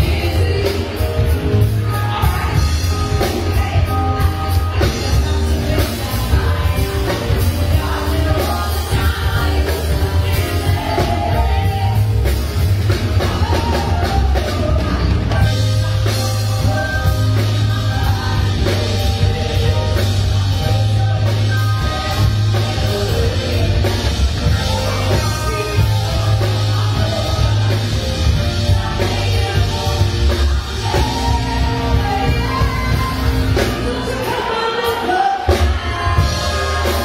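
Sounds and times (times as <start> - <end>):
bass guitar: 0.0 - 37.0
drum kit: 0.0 - 37.0
woman singing into microphone: 0.0 - 37.0.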